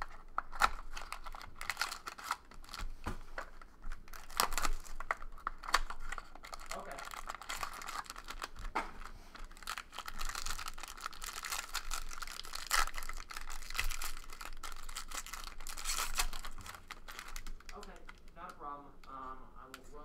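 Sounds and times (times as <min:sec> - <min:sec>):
cards clicking and rustling: 0:00.0 - 0:18.2
card pack wrapper tearing: 0:00.0 - 0:18.4
wrapper crinkling: 0:00.0 - 0:18.6.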